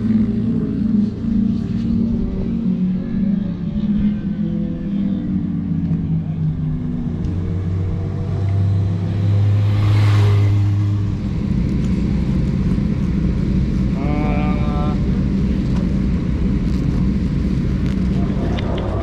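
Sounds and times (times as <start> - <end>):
motorcycle engine humming: 0.0 - 19.0
rush of noise: 0.0 - 19.0.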